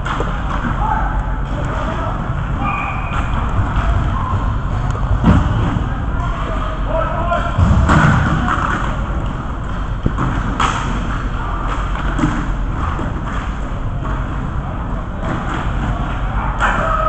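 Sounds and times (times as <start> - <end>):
distant players' voices: 0.0 - 17.0.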